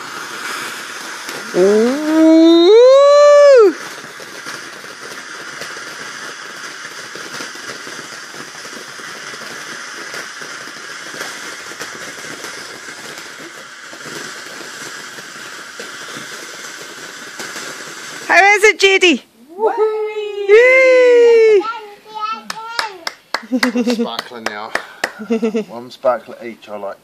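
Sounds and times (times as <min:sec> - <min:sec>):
firework hissing: 0:00.0 - 0:27.0.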